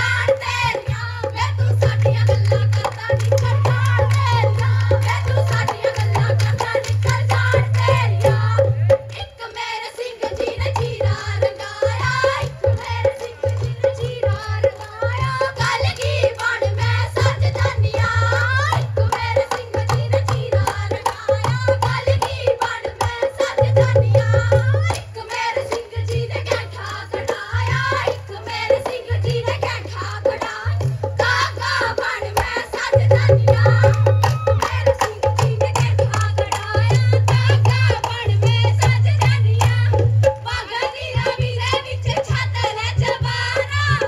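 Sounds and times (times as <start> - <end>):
hand drum beat: 0.0 - 9.2, 10.3 - 44.0
women singing folk verses: 0.0 - 44.0.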